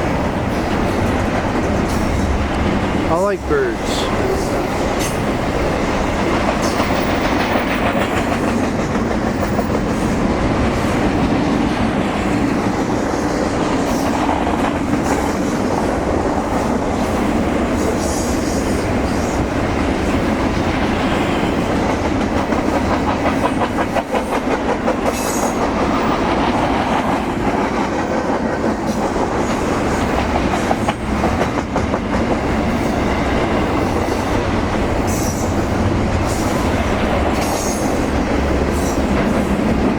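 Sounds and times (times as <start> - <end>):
train wheels clattering over rail joints: 0.0 - 3.1, 3.9 - 39.9.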